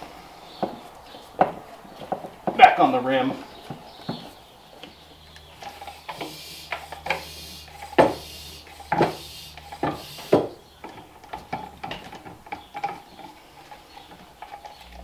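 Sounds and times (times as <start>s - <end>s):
tire and rim knocks and clunks: 0.5s - 15.0s.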